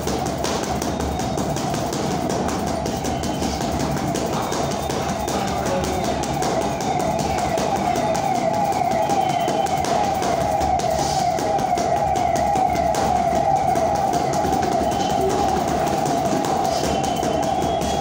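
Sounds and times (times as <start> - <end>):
wavering siren-like wail: 0.0 - 18.0.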